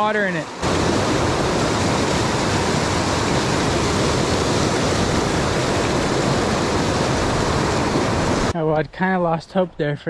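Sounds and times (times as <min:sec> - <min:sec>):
stream rushing over rocks: 0:00.0 - 0:08.5.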